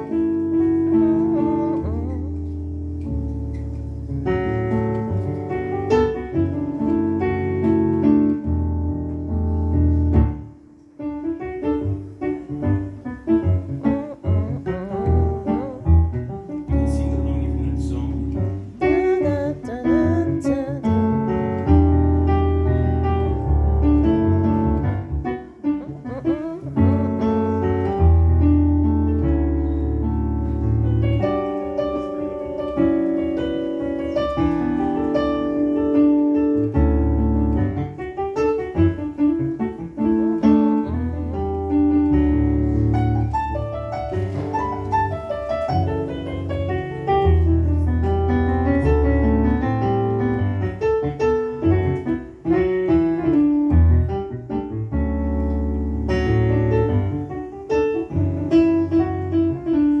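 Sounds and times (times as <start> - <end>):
jazz piano: 0.0 - 60.0.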